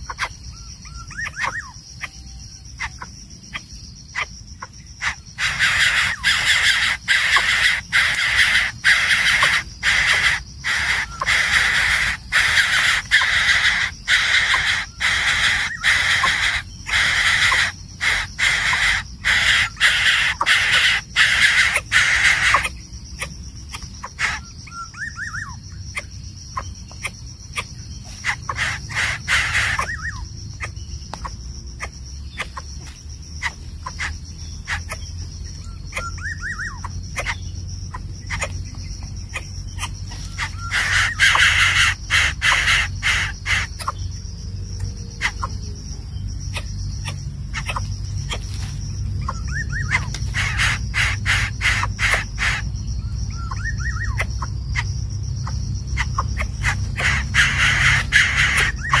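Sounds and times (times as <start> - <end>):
harsh raspy calls: 0.0 - 59.0
insects droning: 0.0 - 59.0
rising bird chirps: 0.0 - 59.0.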